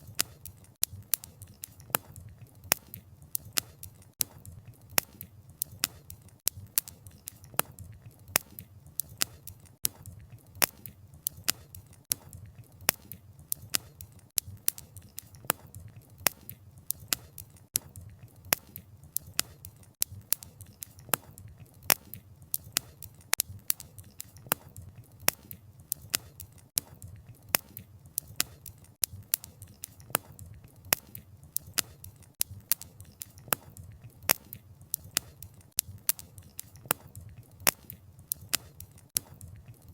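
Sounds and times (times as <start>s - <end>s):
burning logs popping and snapping: 0.0s - 39.9s.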